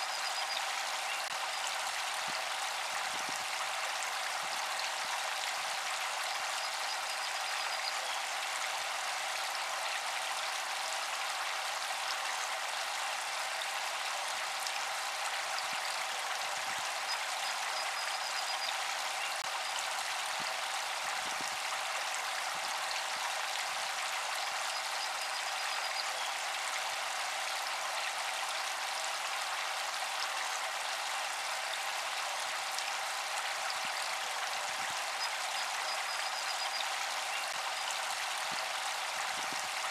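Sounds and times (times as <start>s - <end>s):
faint steady tone: 0.0s - 10.7s, 13.2s - 29.6s, 31.4s - 39.9s
fountain water splashing: 0.0s - 39.9s.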